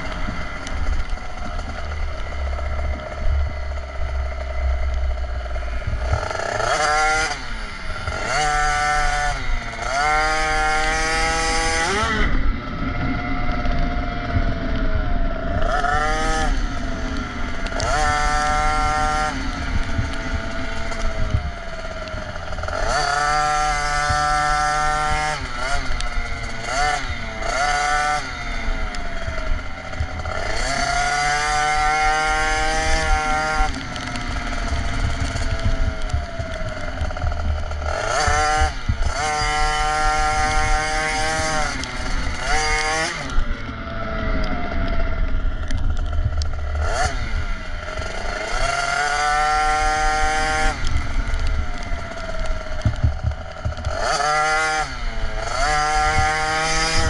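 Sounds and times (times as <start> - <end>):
two-stroke motorbike engine revving: 0.0 - 57.0.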